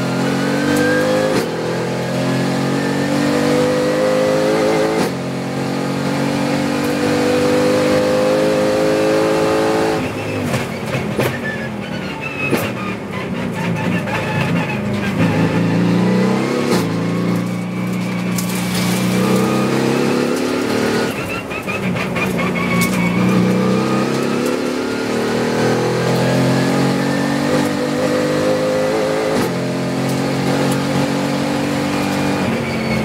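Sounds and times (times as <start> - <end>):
car engine at full throttle: 0.0 - 11.4, 12.2 - 33.0.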